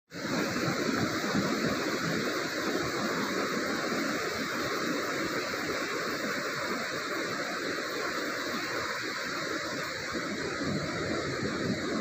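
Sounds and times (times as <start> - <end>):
ocean surf rushing: 0.1 - 12.0.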